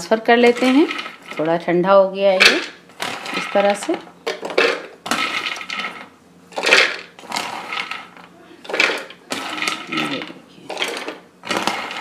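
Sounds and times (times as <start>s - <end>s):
nuts clattering into plastic bowl: 0.4s - 1.5s, 2.4s - 12.0s.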